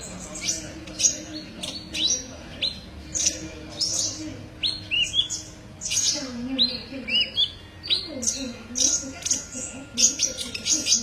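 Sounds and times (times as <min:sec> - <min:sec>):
sunbird chirping: 0:00.0 - 0:11.0
warbled bird notes: 0:00.0 - 0:11.0.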